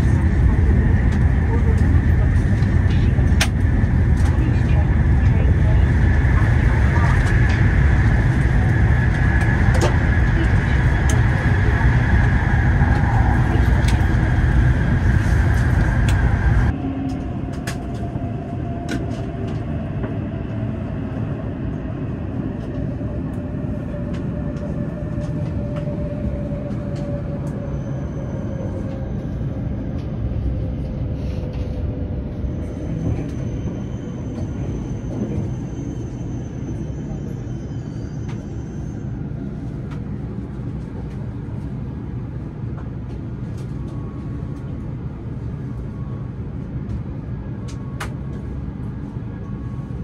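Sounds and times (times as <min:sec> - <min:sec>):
train high whine: 0:00.0 - 0:50.0
train running rumble: 0:00.0 - 0:50.0.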